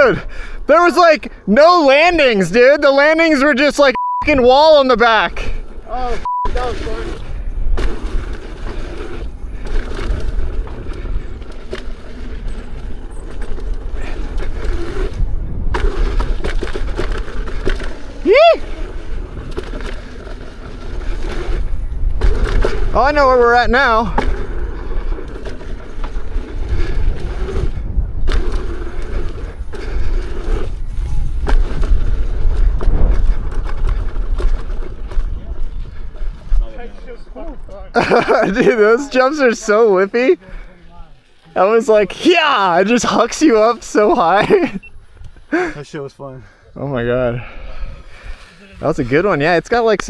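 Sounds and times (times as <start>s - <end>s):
wind buffeting microphone: 4.2s - 50.0s
tyre rumbling over dirt trail: 4.3s - 50.0s.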